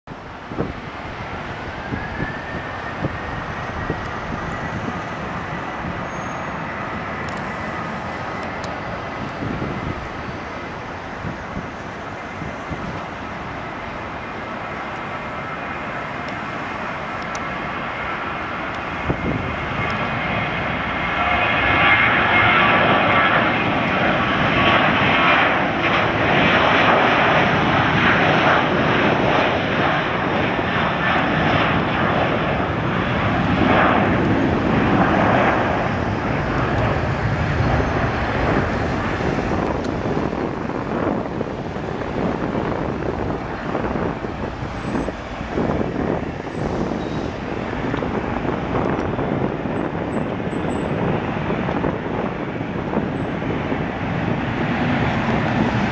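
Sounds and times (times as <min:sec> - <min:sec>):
jet engines whining: 0:00.1 - 0:55.9.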